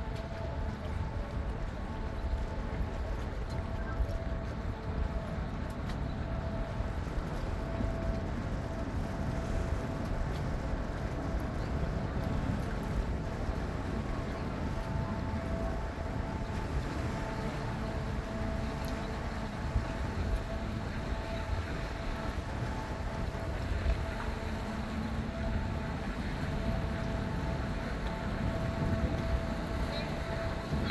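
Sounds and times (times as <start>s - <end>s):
faint steady tones: 0.0s - 30.9s
ship machinery rumble and hum: 0.0s - 30.9s.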